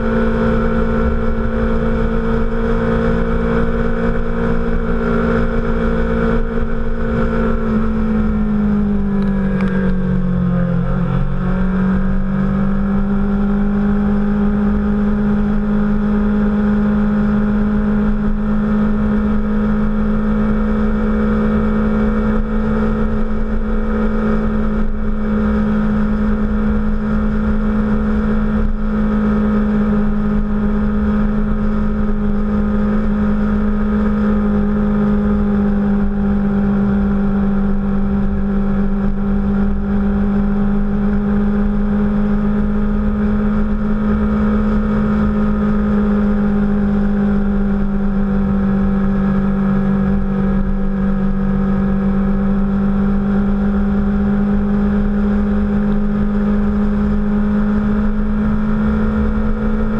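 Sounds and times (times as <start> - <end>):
motorcycle engine cruising: 0.0 - 59.9
wind rumble on microphone: 0.0 - 59.9.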